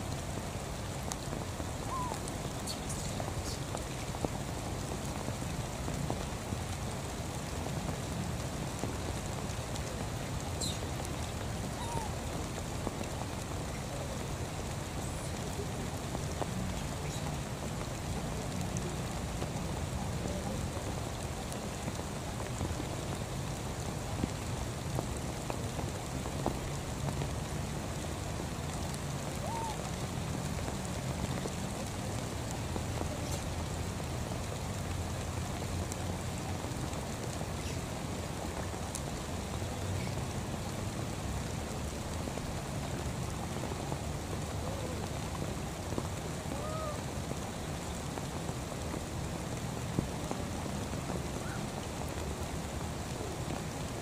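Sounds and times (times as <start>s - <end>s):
rain falling on water and grass: 0.0s - 54.0s.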